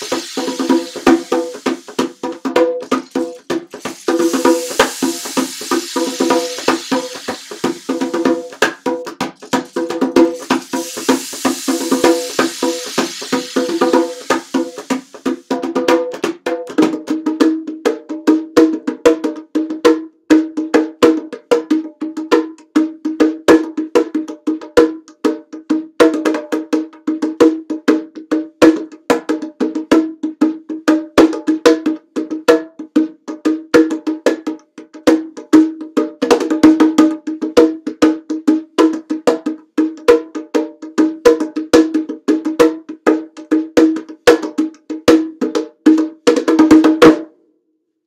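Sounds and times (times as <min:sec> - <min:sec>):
bongos played by hand: 0:00.0 - 0:47.4.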